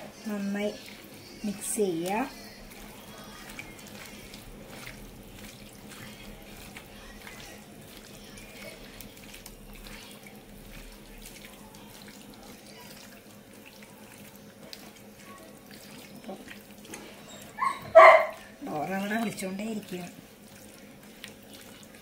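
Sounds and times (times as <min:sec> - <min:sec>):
wet squelching of hand mixing meat: 0:00.0 - 0:22.0.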